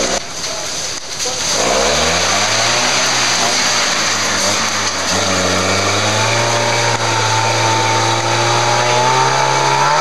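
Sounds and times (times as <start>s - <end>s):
off-road vehicle engine at high revs: 1.2s - 10.0s.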